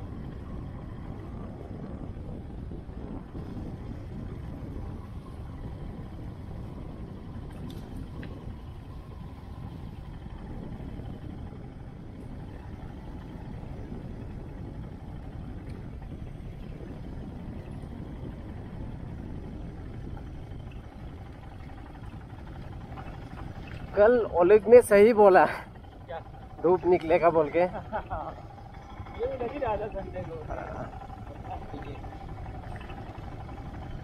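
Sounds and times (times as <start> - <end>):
road noise: 0.0 - 34.0
vehicle engine running: 0.0 - 34.0.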